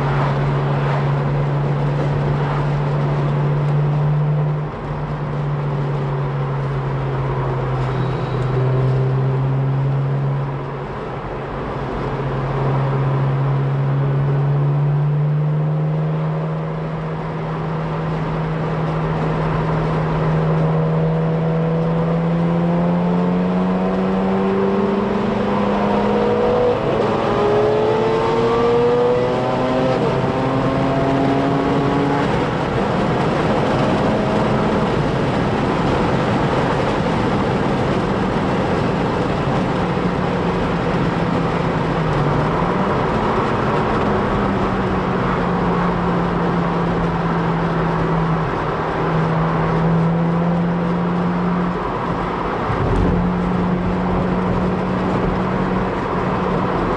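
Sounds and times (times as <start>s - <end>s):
car engine inside cabin: 0.0s - 56.9s
tyre road noise: 0.0s - 56.9s.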